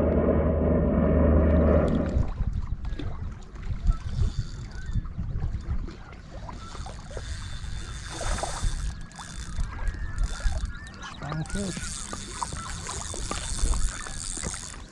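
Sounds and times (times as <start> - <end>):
wind rumbling on microphone: 0.0 - 14.7
water lapping: 0.0 - 14.9.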